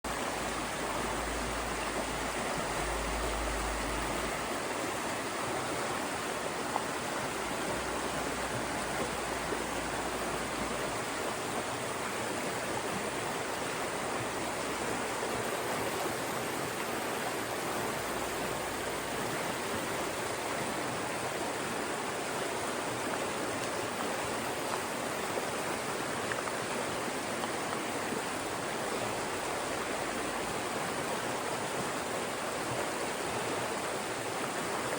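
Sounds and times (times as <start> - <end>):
mountain stream rushing over rocks: 0.1 - 34.9.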